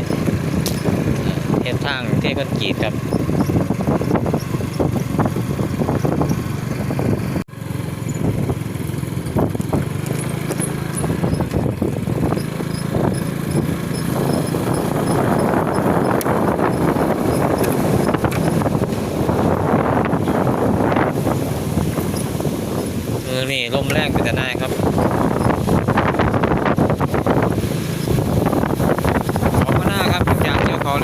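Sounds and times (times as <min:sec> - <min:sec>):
small engine running: 0:00.0 - 0:31.0
wind buffeting microphone: 0:00.0 - 0:31.0.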